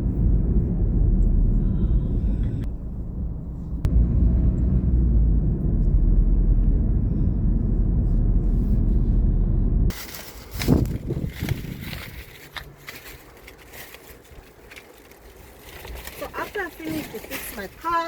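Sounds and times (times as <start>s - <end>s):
car engine rumble: 0.0s - 18.0s
road noise: 0.0s - 18.0s.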